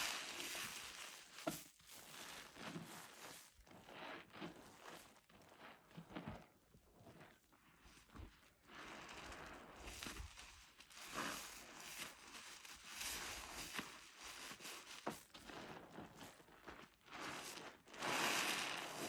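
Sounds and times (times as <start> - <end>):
soapy sponge squeezed: 0.0 - 6.4, 8.6 - 19.0.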